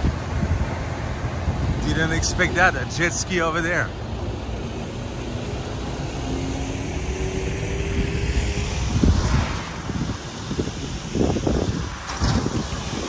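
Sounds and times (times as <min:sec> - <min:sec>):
jet ski engine drone: 0:00.0 - 0:13.0
wind rumble on microphone: 0:00.0 - 0:13.0.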